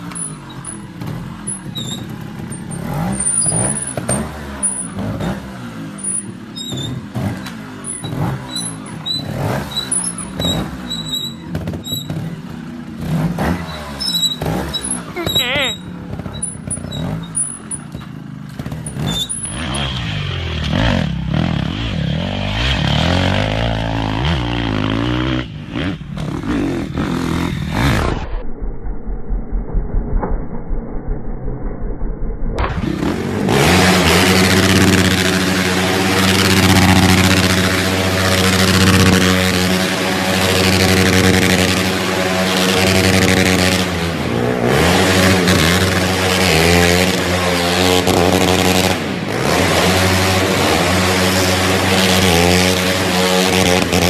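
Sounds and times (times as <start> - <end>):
quad bike engine running: 0.0 - 28.3, 32.6 - 54.0
motorcycle engine revving: 0.0 - 28.4, 32.6 - 54.0.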